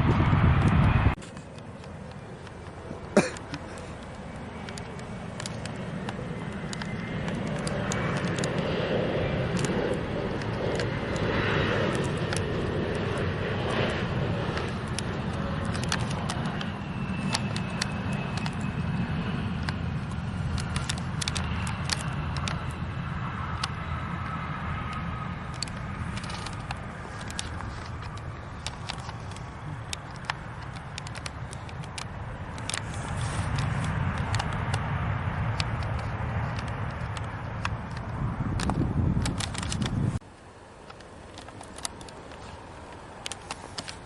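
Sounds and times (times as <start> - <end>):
airplane engine: 0.0 - 44.0.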